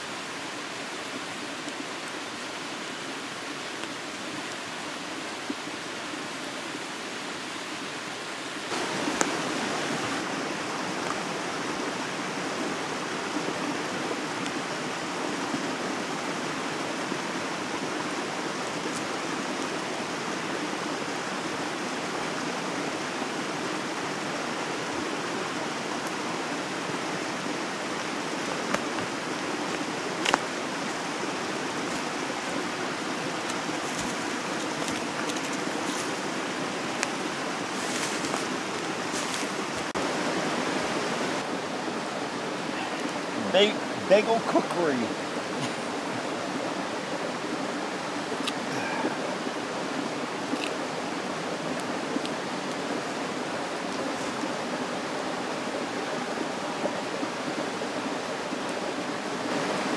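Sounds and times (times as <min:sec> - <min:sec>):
campfire crackling: 0:00.0 - 0:59.9
stream rushing: 0:00.0 - 0:59.9.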